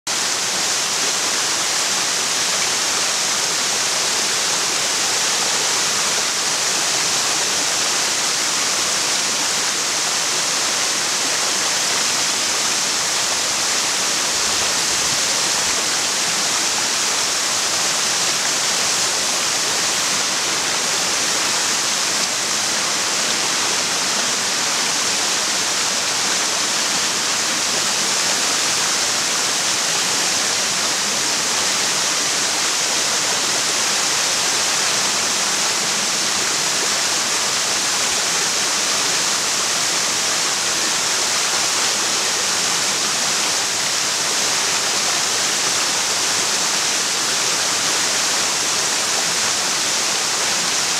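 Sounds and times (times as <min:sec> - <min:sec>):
waterfall rushing over rocks: 0:00.1 - 0:50.9.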